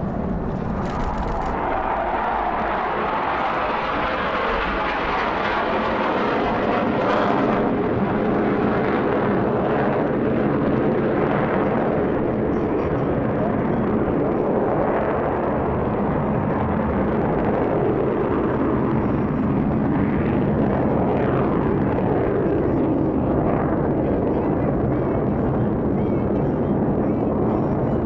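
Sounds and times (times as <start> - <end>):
jet engines flying overhead: 0.0 - 28.0.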